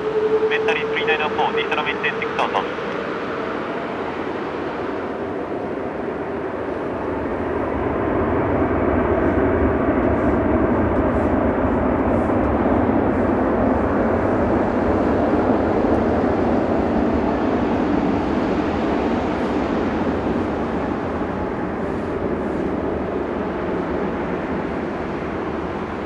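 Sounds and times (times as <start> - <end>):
jet engines at takeoff power: 0.0 - 26.0.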